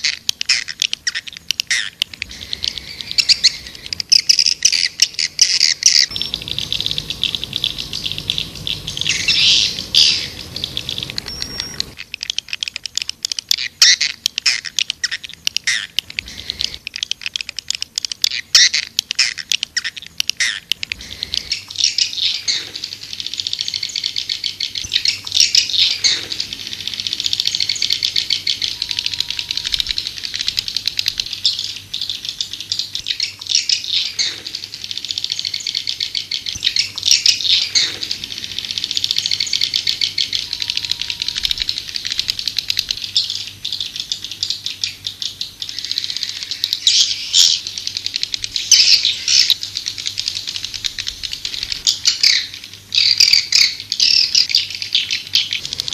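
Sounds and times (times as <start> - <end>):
bird twittering and trilling: 0.0 - 55.9.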